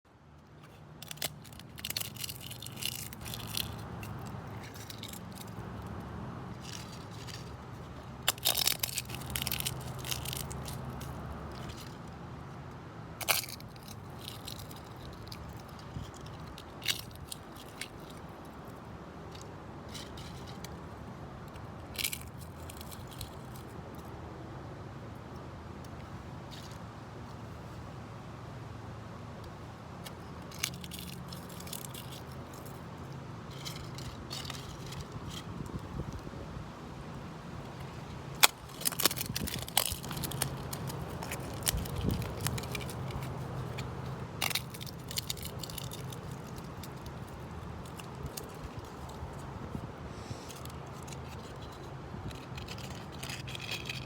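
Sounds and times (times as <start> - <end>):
crackling and crunching: 0.4 - 24.1, 30.0 - 54.0.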